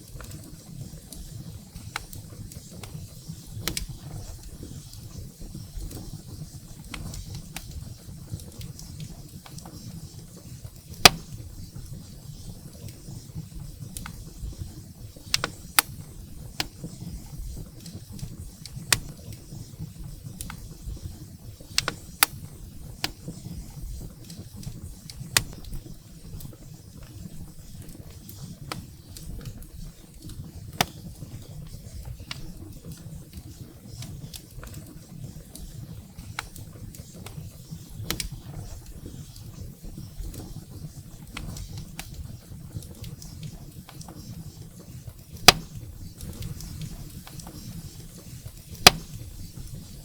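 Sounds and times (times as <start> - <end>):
firewood crackling and popping: 0.0 - 50.0.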